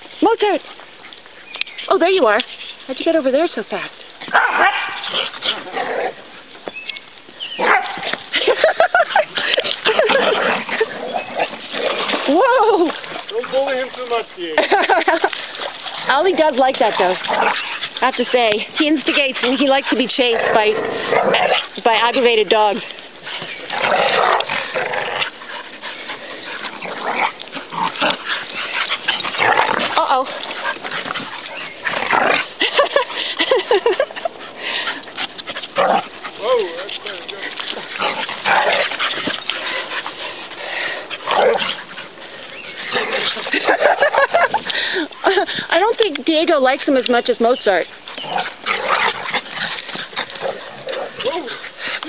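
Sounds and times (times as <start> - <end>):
dogs yipping and barking: 3.7 - 45.4, 47.3 - 52.0.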